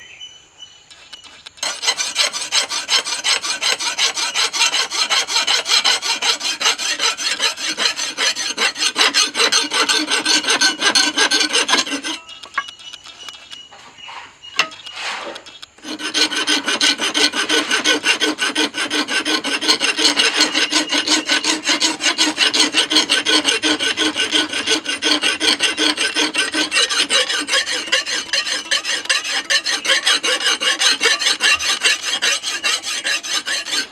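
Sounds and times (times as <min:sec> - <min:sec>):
abrasive scraping knife blade: 0:00.9 - 0:13.7, 0:14.6 - 0:33.9.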